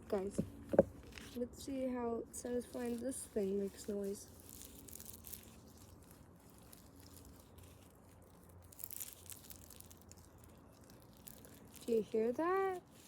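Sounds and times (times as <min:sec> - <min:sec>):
squishy toy crackling and squelching: 0:02.2 - 0:13.0.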